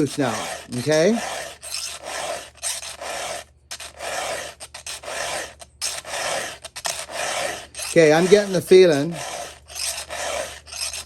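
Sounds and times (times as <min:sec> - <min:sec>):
hand file rasping on chain: 0:00.0 - 0:11.0.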